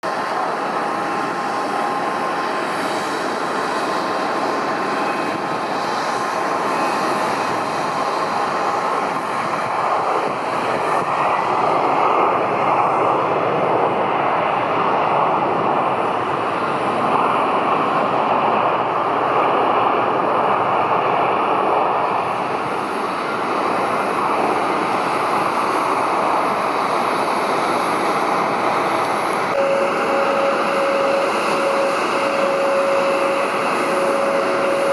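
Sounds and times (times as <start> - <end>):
jet engine roar: 0.0 - 34.9.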